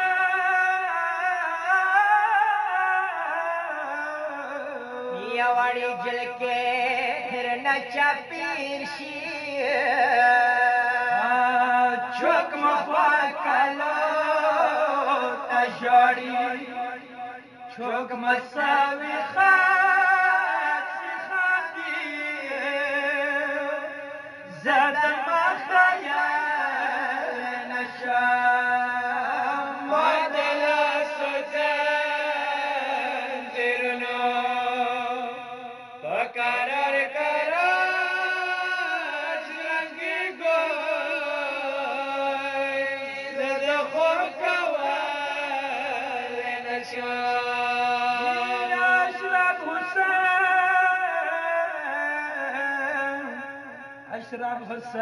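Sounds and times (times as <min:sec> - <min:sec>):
man chanting a lament: 0:00.0 - 0:55.0.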